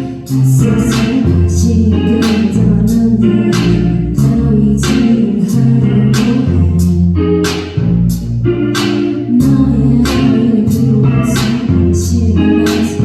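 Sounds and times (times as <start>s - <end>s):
person singing: 0.0s - 7.7s, 8.7s - 13.0s
bass guitar: 0.0s - 13.0s
drum kit: 0.0s - 13.0s
guitar: 0.0s - 13.0s.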